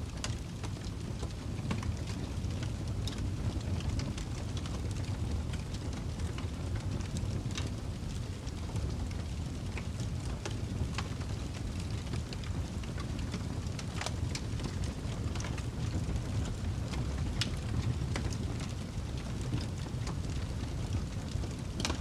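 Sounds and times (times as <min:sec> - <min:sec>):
fire crackles and pops: 0:00.0 - 0:22.0
fire roaring: 0:00.0 - 0:22.0.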